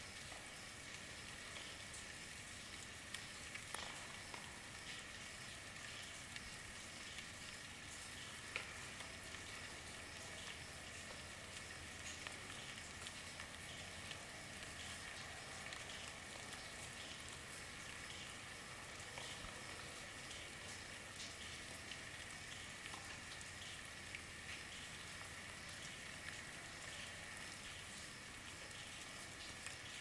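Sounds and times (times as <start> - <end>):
rain hissing: 0.0 - 30.0
raindrops ticking: 0.0 - 30.0.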